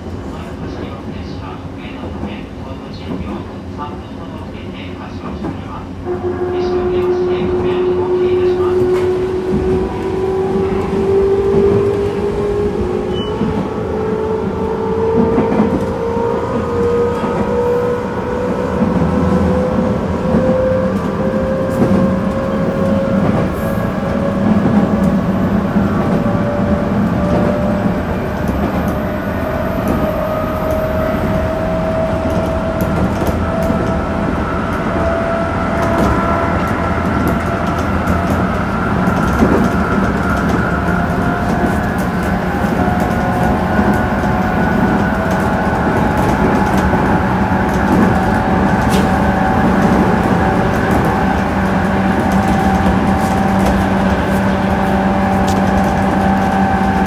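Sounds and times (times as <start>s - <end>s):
train running rumble: 0.0s - 57.0s
train traction motors whining: 6.0s - 57.0s.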